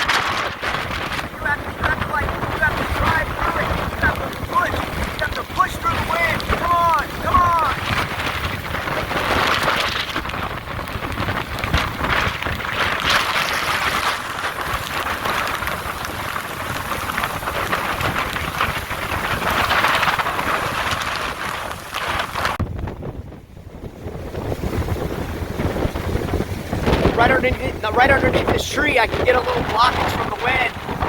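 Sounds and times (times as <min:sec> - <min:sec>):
heavy rain on microphone: 0:00.0 - 0:31.0
strong wind: 0:00.0 - 0:31.0.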